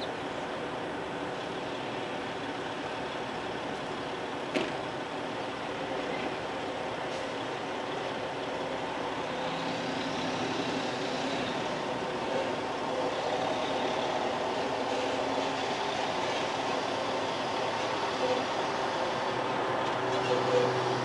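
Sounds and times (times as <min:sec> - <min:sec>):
diesel truck engine: 0:00.0 - 0:21.0.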